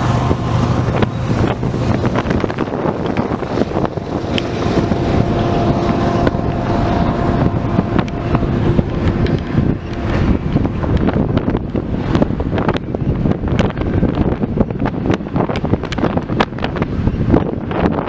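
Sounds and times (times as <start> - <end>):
freight train rumbling: 0.0 - 18.0
wind buffeting microphone: 0.0 - 18.0.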